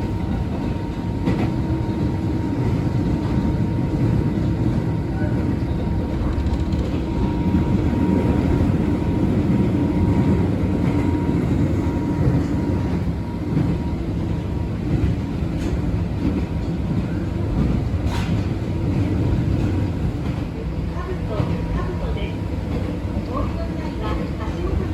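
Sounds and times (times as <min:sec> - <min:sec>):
train wheels rumbling on rail: 0:00.0 - 0:24.9.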